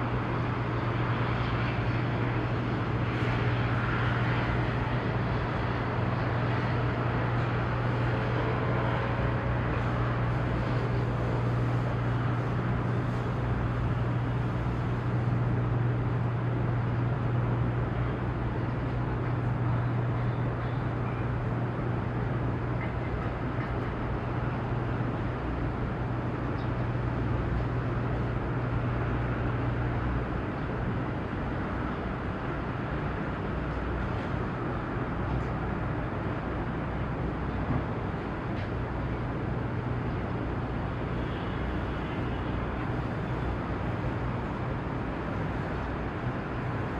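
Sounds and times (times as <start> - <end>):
marine engines droning: 0.0 - 46.9.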